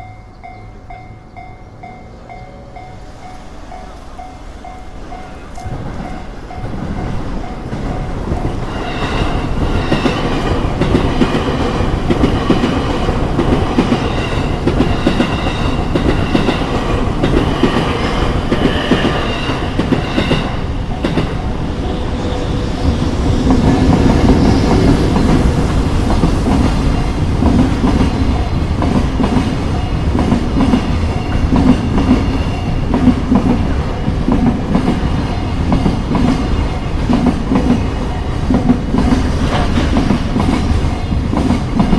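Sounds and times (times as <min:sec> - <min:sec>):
train rumbling past: 0:00.0 - 0:41.9
wheels clacking over rail joints: 0:03.8 - 0:41.9.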